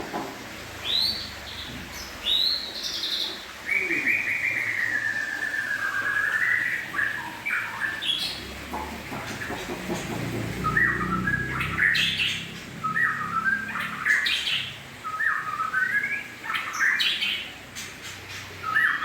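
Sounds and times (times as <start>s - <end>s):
bird chirping and warbling: 0.8s - 19.0s.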